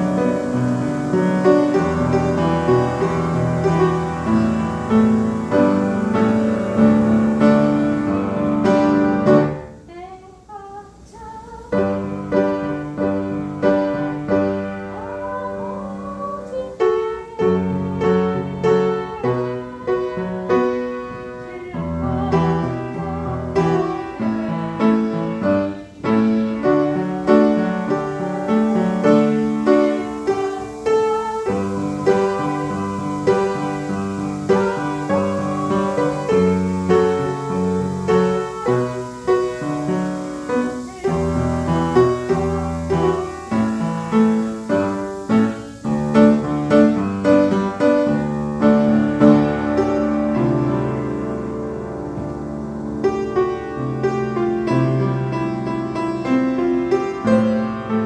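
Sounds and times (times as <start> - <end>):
piano playing slow chords: 0.0 - 10.0, 11.5 - 58.0.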